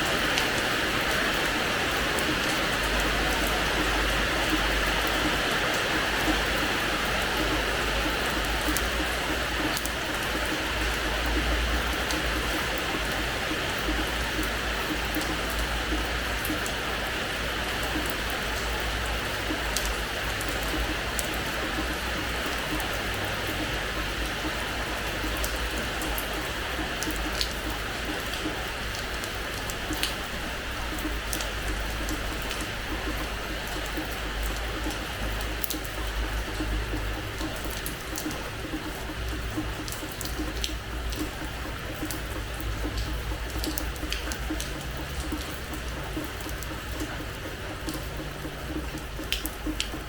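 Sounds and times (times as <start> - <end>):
rain on hard floor: 0.0 - 50.0
raindrop splats: 0.0 - 50.0.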